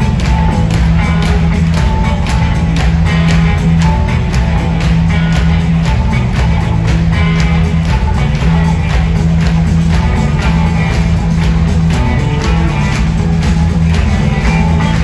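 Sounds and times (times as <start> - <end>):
bass guitar: 0.0 - 15.0
drums playing steady beat: 0.0 - 15.0
electric guitar: 0.0 - 15.0.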